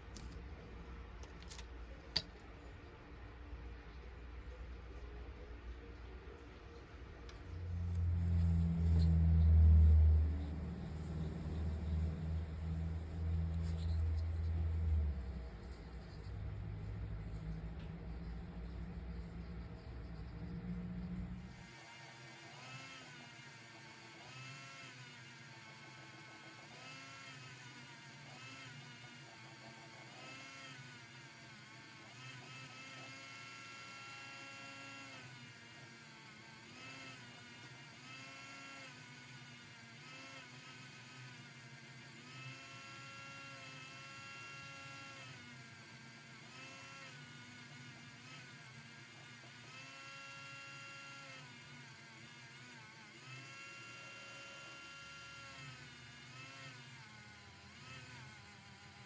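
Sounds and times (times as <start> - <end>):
small electric motor whirring: 7.3 - 59.0.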